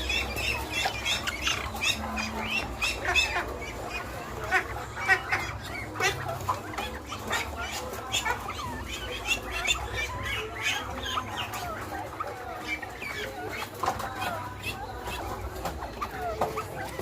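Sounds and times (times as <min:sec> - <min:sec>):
quail chirping calls: 0:00.0 - 0:17.0.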